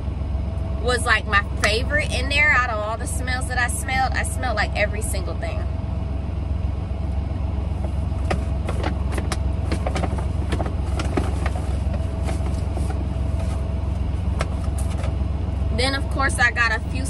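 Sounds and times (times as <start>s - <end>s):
truck idling: 0.0s - 17.0s.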